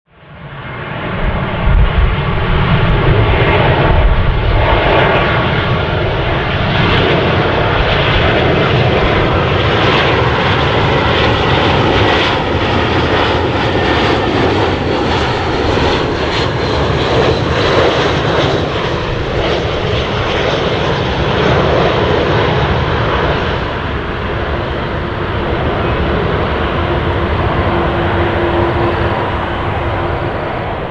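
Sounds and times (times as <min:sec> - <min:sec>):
jet engine rumble: 0:00.3 - 0:30.9.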